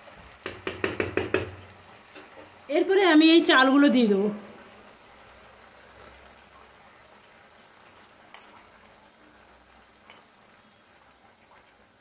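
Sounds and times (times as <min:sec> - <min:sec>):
pan sizzling: 0:00.0 - 0:12.0.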